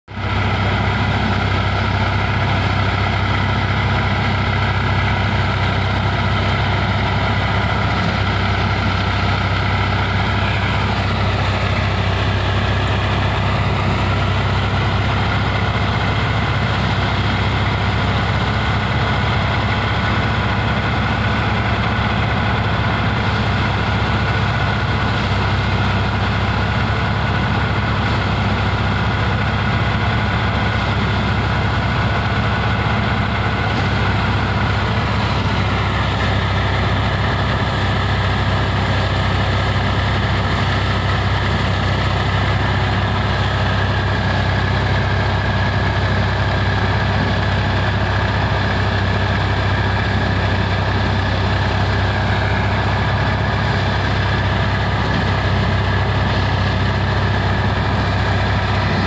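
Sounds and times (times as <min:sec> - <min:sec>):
tractor engine humming: 0:00.0 - 0:59.0
threshing machine whine: 0:00.1 - 0:59.0.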